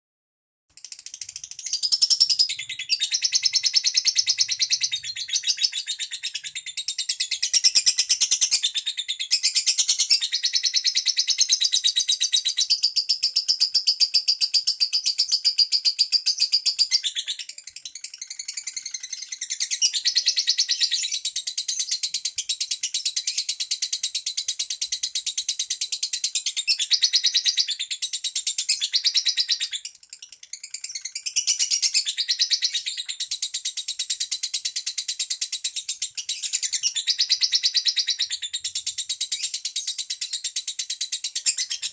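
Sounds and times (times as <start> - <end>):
lovebird chattering: 0.8 - 41.9.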